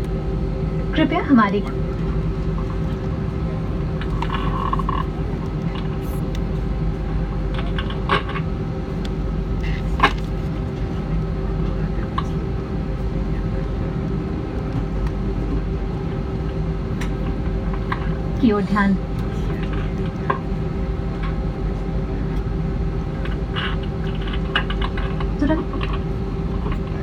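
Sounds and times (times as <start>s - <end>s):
airplane cabin drone: 0.0s - 27.0s.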